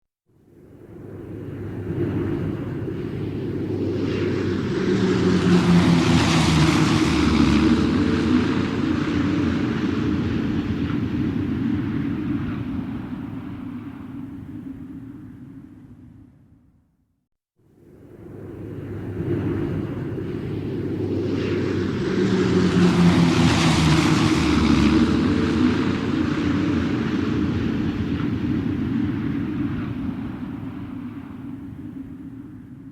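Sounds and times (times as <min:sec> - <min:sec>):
airplane engines droning: 0:00.8 - 0:15.8, 0:18.0 - 0:32.9.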